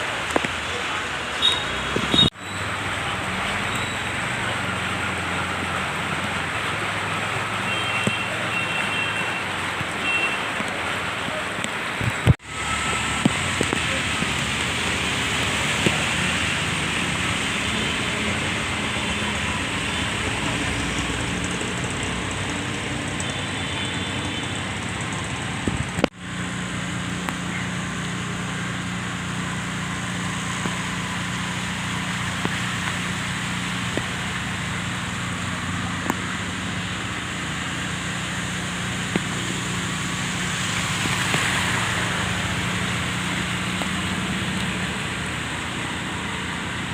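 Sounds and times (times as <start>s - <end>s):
heavy rain and running water: 0.0s - 46.9s
vehicle traffic: 0.0s - 46.9s.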